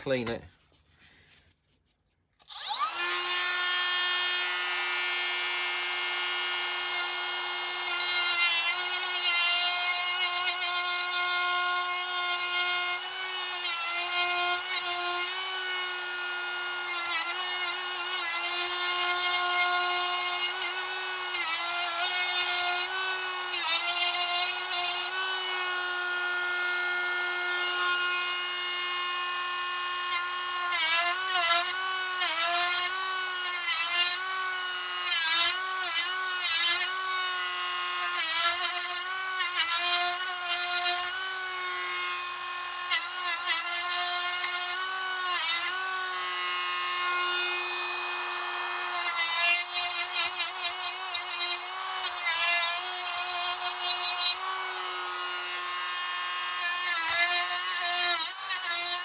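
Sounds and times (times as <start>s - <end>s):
rotary tool cutting plastic: 1.4s - 59.0s.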